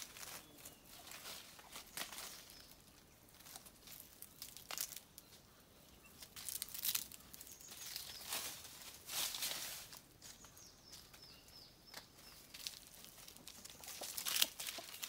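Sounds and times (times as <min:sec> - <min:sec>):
chickens scratching in dry leaves: 0:00.0 - 0:05.5, 0:06.1 - 0:11.2, 0:12.1 - 0:15.0.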